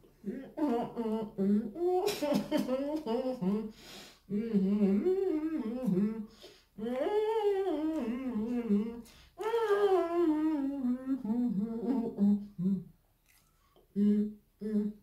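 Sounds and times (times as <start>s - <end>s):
woman humming with mouth full: 0.2s - 3.7s, 4.3s - 12.9s, 13.9s - 15.0s.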